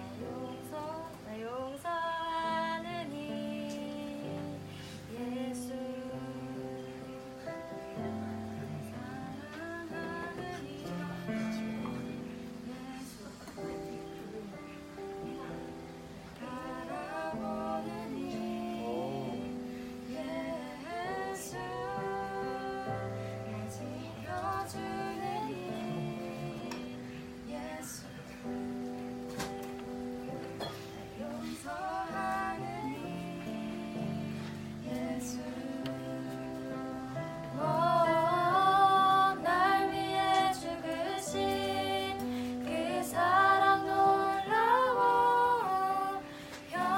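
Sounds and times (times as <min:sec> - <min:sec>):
voices singing worship song: 0:00.0 - 0:46.9
held instrumental accompaniment: 0:02.3 - 0:46.9.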